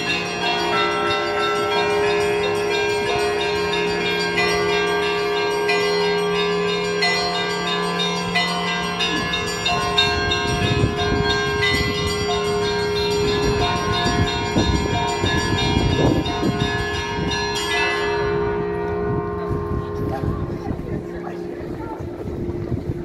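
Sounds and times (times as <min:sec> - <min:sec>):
deep bell hum: 0:00.0 - 0:23.0
large bells ringing: 0:00.0 - 0:23.0.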